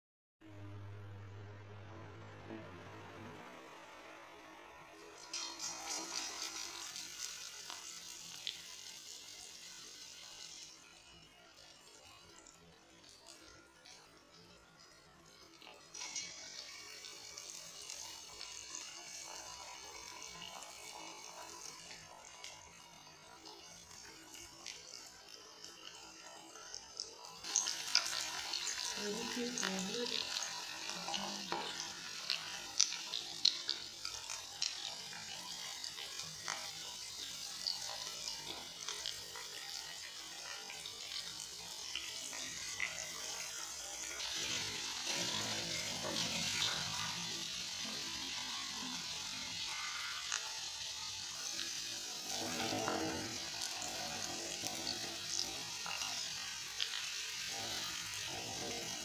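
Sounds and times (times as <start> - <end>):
chicken deep-frying in oil: 4.0 - 59.0.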